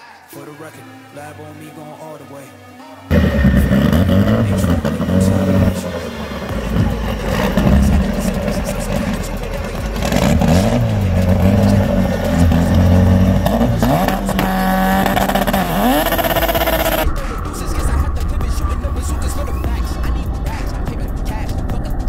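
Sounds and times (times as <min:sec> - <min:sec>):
car engine revving: 0:03.1 - 0:22.0.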